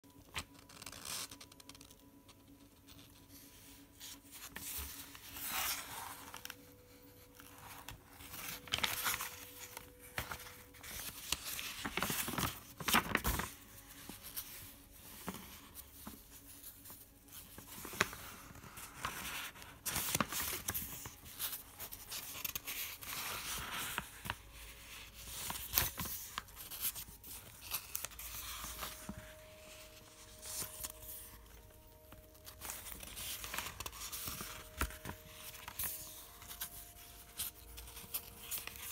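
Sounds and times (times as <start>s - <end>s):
notebook pages turning: 0.1s - 38.9s.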